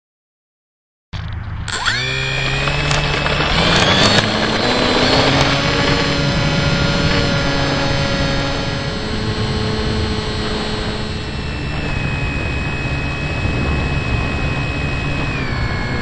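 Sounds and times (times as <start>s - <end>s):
model aircraft motor running: 1.7s - 16.0s.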